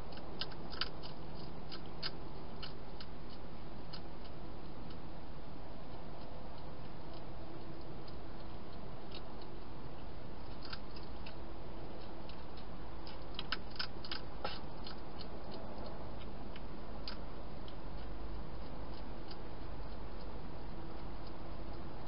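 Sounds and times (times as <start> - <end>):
hedgehog crunching dry food: 0.0 - 5.0, 6.2 - 20.0.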